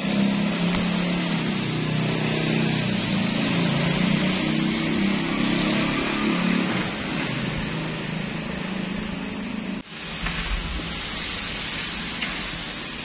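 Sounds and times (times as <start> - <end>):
steady rushing hiss: 0.0 - 13.0
vehicle engine humming: 0.0 - 13.0.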